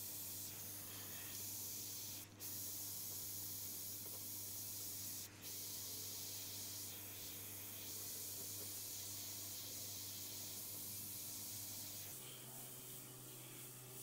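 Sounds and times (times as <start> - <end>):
airbrush hissing: 0.1 - 3.1, 4.5 - 14.0.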